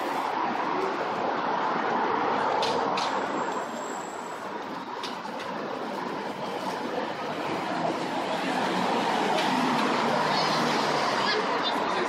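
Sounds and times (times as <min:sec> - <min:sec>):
passing traffic hum: 0:00.0 - 0:12.0
pedestrians: 0:00.0 - 0:12.0.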